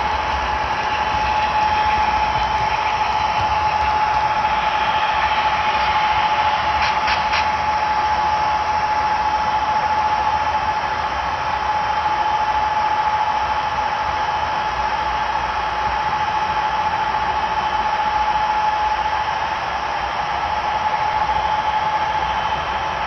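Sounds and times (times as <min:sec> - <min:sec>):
model train whirring: 0:00.0 - 0:23.0.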